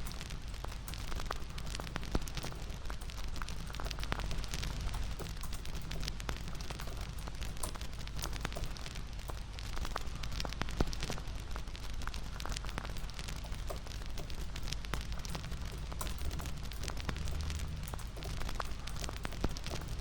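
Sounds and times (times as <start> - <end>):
low fire rumble: 0.0 - 20.0
wood fire crackling: 0.0 - 20.0.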